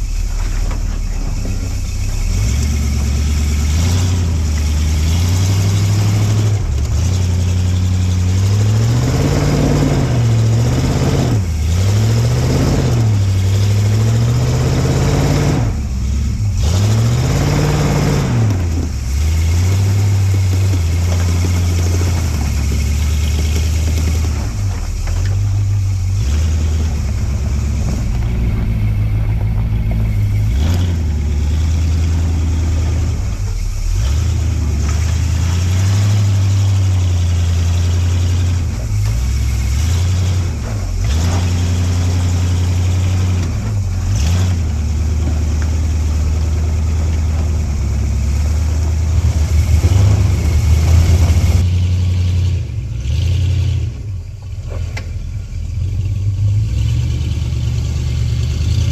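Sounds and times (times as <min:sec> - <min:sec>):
vehicle engine revving: 0:00.0 - 0:58.9.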